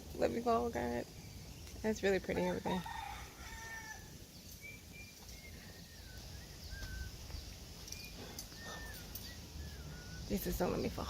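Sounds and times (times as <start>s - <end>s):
birds whistling: 0.4s - 11.0s.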